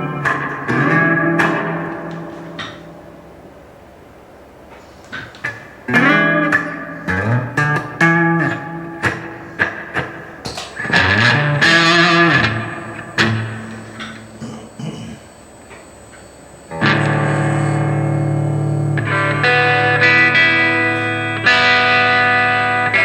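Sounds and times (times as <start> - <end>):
electric guitar chords with reverb: 0.0 - 4.0, 5.1 - 23.0.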